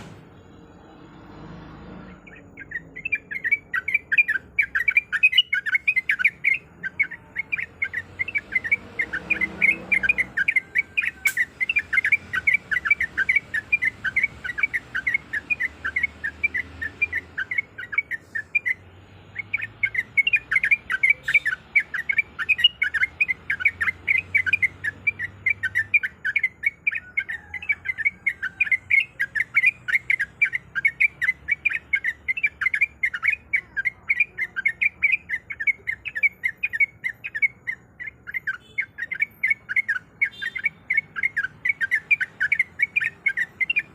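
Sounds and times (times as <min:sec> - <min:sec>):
bulbul chirping: 0:02.1 - 0:43.9.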